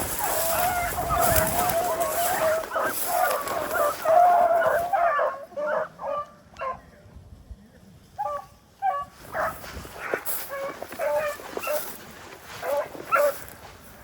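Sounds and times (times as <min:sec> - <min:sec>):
dogs barking: 0:00.0 - 0:06.8, 0:08.2 - 0:12.0, 0:12.6 - 0:13.5
hounds baying: 0:00.0 - 0:06.8, 0:08.2 - 0:13.6.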